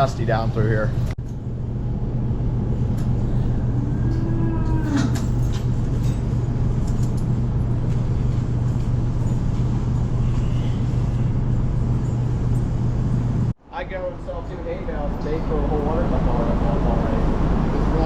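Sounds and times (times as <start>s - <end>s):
ventilation fans humming: 0.0s - 18.0s.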